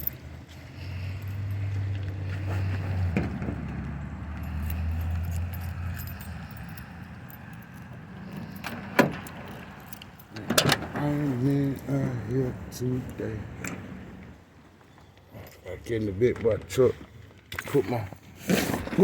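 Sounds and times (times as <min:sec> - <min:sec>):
low vehicle engine hum: 0:00.0 - 0:15.3.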